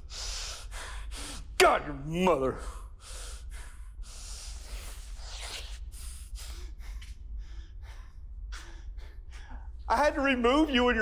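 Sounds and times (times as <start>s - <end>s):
man breathing heavily: 0.0s - 1.6s, 2.5s - 9.9s.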